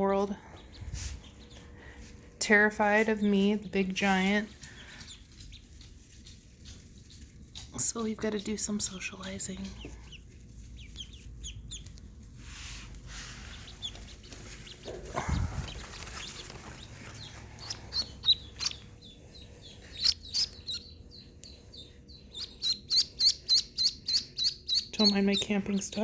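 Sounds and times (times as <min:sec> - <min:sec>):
ducklings peeping: 0:00.0 - 0:26.0.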